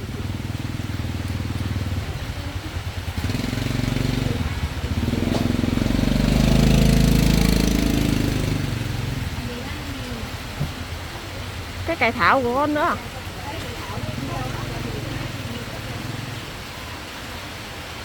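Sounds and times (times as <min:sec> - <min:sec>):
motorbike engines running: 0:00.0 - 0:18.0
motorbike passing by: 0:00.0 - 0:18.0.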